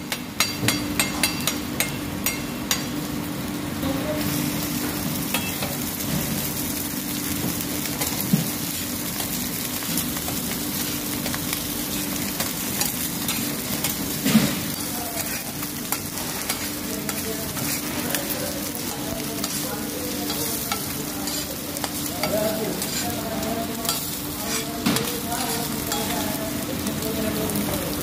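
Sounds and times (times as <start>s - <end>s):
eggs sizzling on a griddle: 0.0s - 28.0s.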